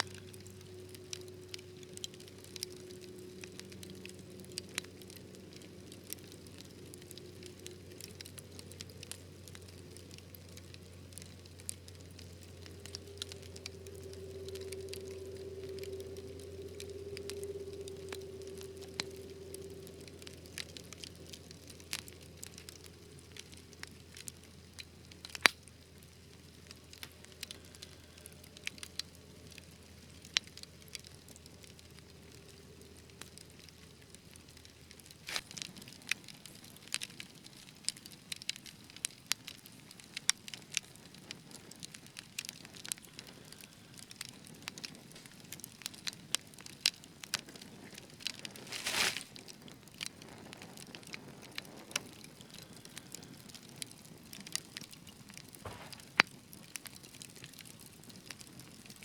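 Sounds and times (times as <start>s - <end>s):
fire crackling and popping: 0.0s - 59.0s
low hiss of fire: 0.0s - 59.0s.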